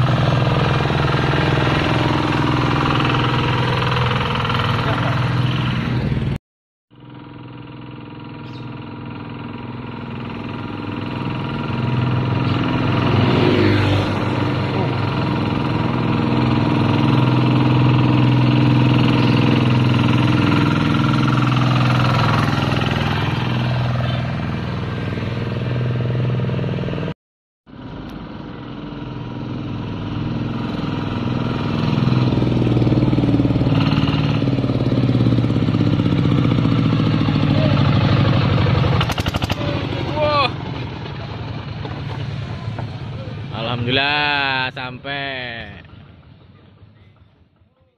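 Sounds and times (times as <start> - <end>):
diesel tractor engine running: 0.0 - 27.1, 27.7 - 47.9.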